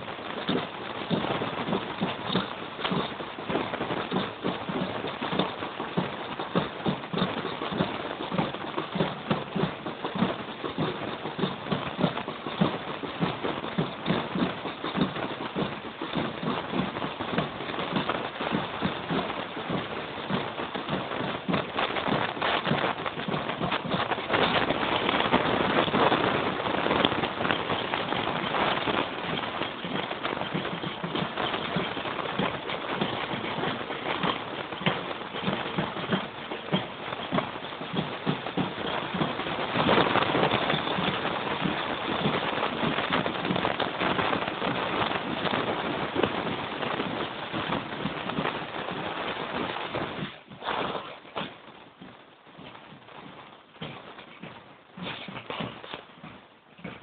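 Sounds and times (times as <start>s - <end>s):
footsteps on dirt path: 0.0s - 57.0s
rustling crackly hiss: 0.0s - 57.0s
steady rushing noise: 0.0s - 57.0s.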